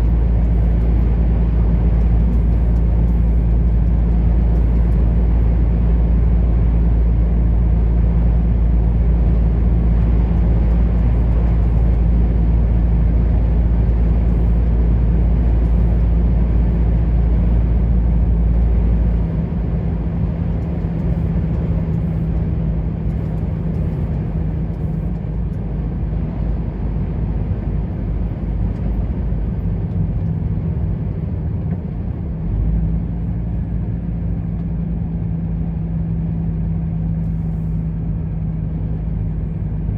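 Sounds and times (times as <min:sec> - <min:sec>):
deep low rumble: 0:00.0 - 0:39.9
road noise: 0:00.0 - 0:39.9
truck engine running: 0:00.0 - 0:39.9.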